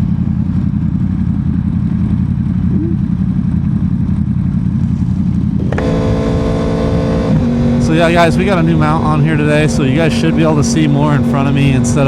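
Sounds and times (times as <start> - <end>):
motorcycle engine hum: 0.0 - 12.0.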